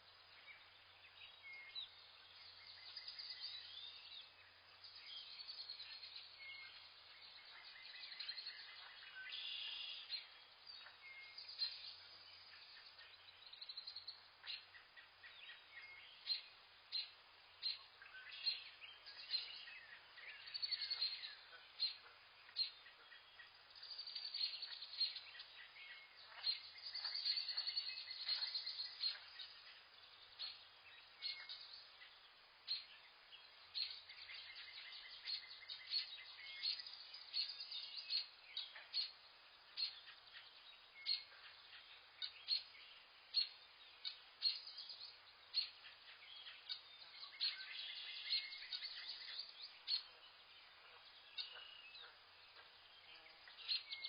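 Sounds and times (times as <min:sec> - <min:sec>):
birds chirping and trilling: 0:00.0 - 0:54.0
faint background hiss: 0:00.0 - 0:54.0.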